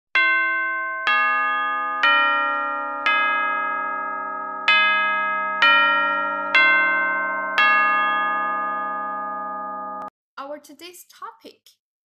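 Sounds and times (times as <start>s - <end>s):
bell-like chime chords: 0.2s - 10.1s.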